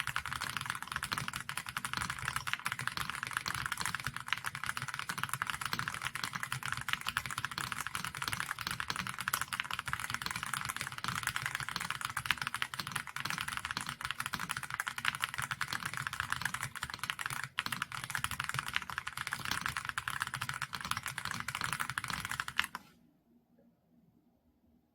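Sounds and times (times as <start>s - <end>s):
fast typing on mechanical keyboard: 0.0s - 22.8s.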